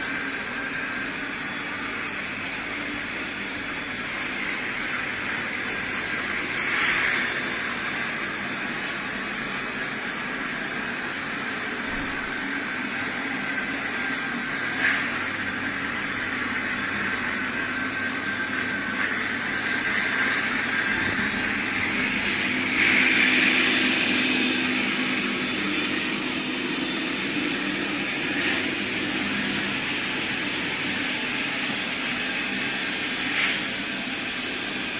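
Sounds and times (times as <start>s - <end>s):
robot vacuum motor whirring: 0.0s - 34.9s.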